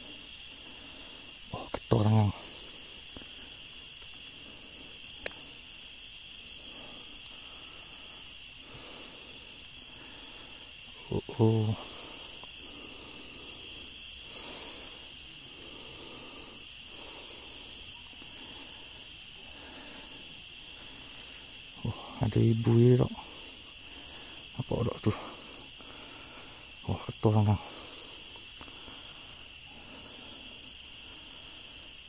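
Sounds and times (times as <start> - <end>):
insects droning: 0.0 - 32.0.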